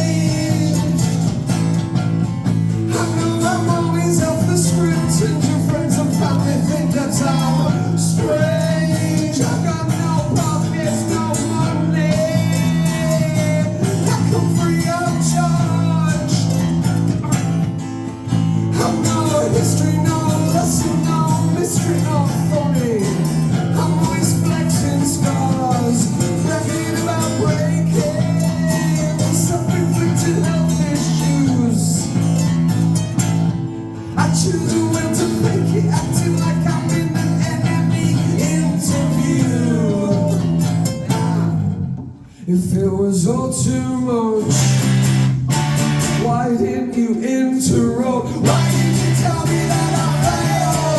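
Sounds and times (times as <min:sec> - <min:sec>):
live rock band playing: 0:00.0 - 0:42.2, 0:44.4 - 0:46.5, 0:48.4 - 0:50.9.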